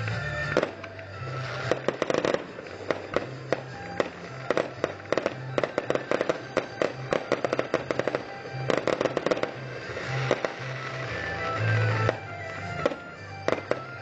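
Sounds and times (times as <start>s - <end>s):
fireworks cracking and popping: 0.0s - 14.0s
music playing: 0.0s - 14.0s.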